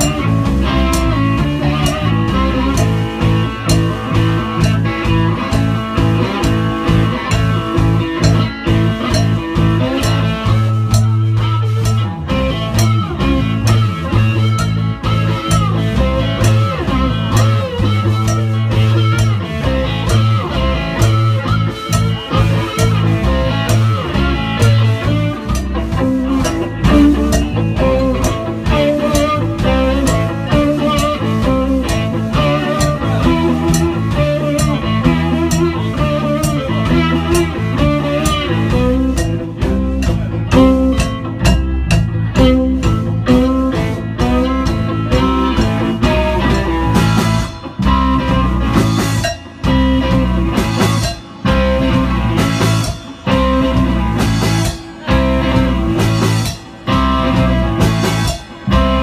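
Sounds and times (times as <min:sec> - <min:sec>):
live blues band playing: 0:00.0 - 0:59.0
slide guitar: 0:00.0 - 0:59.0.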